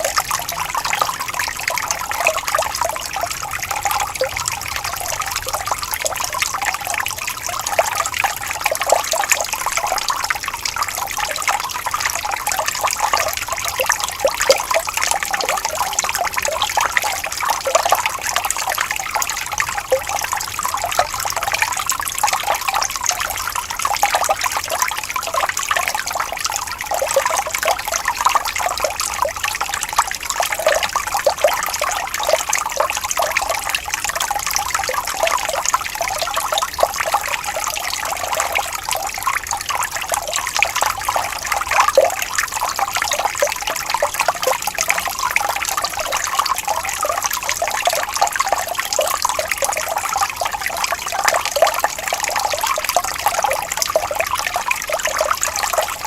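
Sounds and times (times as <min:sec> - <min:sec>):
water trickling and bubbling: 0:00.0 - 0:56.0.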